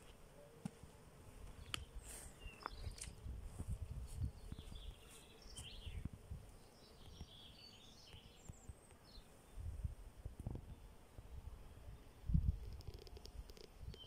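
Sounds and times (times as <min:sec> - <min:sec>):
small birds chirping: 0:00.0 - 0:09.8, 0:11.9 - 0:14.0.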